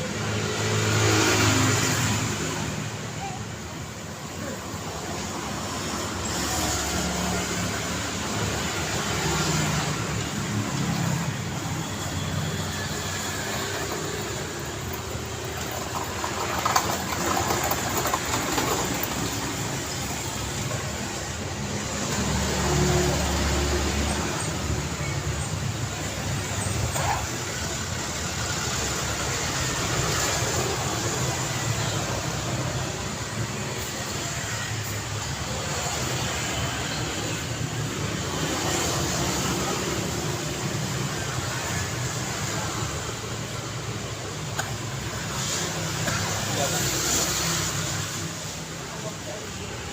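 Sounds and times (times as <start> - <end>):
cars and trucks driving past: 0.0 - 49.9.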